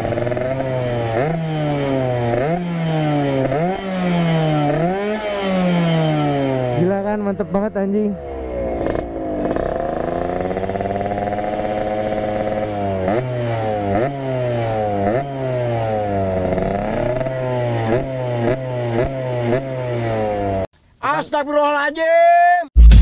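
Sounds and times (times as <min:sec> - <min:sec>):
two-stroke motorcycle engine revving: 0:00.0 - 0:20.7.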